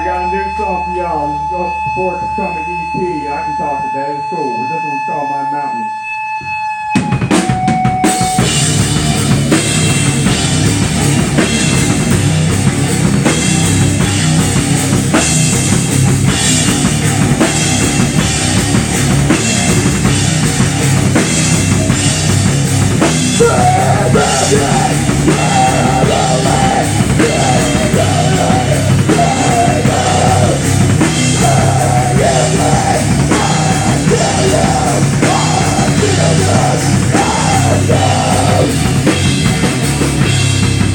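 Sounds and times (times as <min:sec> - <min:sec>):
electric bass: 0:00.0 - 0:40.9
electric guitar: 0:06.0 - 0:40.9
drum kit: 0:06.3 - 0:40.9.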